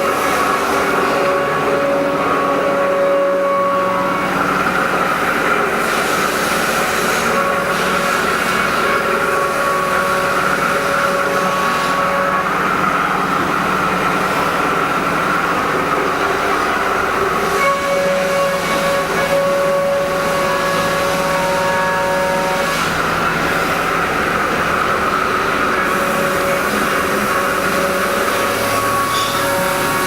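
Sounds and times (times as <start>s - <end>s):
milling machine hum: 0.0s - 30.0s
whining tones: 0.0s - 30.0s.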